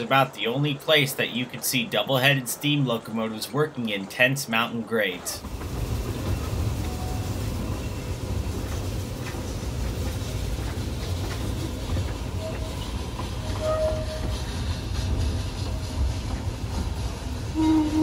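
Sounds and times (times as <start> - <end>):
steam train rumble: 0.0 - 18.0.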